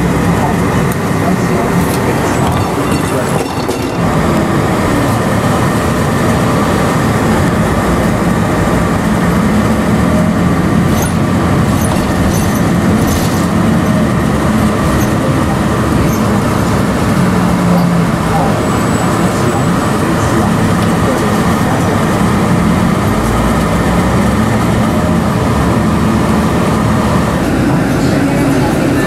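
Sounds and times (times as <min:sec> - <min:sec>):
moving vehicle running noise: 0:00.0 - 0:29.0.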